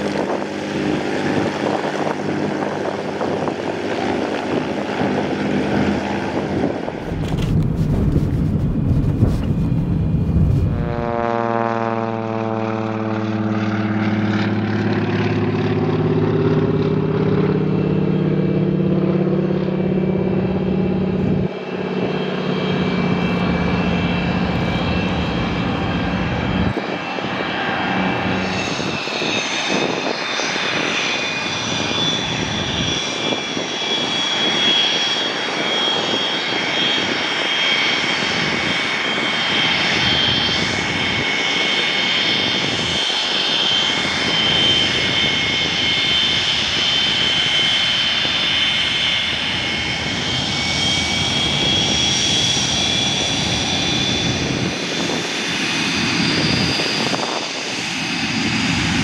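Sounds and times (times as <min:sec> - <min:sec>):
jet engine whine: 0:00.0 - 0:59.0
propeller engine: 0:00.0 - 0:59.0.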